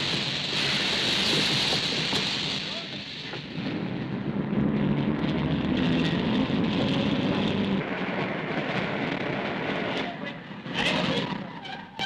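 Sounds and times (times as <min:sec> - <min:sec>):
dense rumbling noise: 0:00.0 - 0:12.0.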